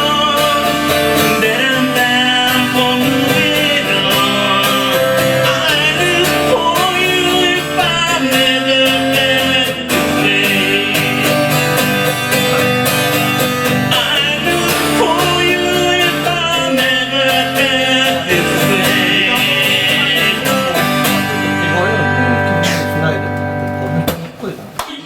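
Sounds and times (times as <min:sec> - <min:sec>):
person singing: 0:00.0 - 0:13.0, 0:13.6 - 0:24.1
acoustic guitar folk song: 0:00.0 - 0:24.6.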